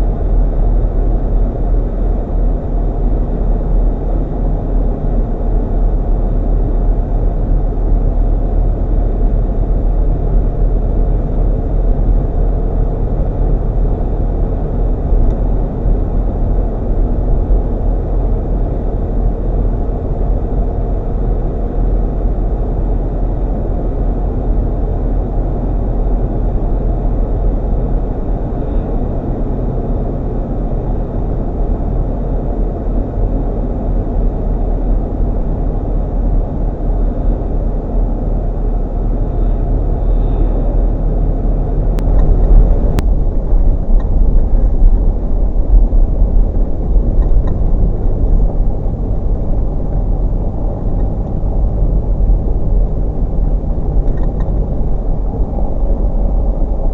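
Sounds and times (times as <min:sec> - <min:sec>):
road and engine rumble: 0:00.0 - 0:56.9.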